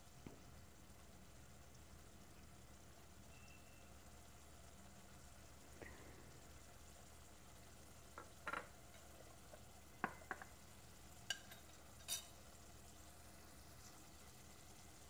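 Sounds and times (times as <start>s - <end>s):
sauce simmering in a pot: 0.0s - 15.0s.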